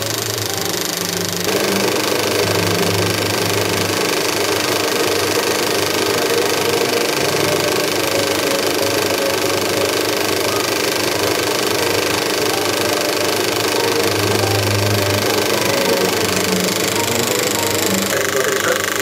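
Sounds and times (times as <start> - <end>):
film projector running: 0.0 - 19.0.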